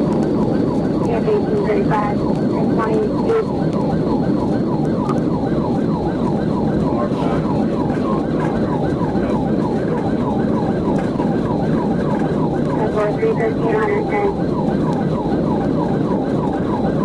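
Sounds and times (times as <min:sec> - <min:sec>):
police siren yelping: 0:00.0 - 0:17.0.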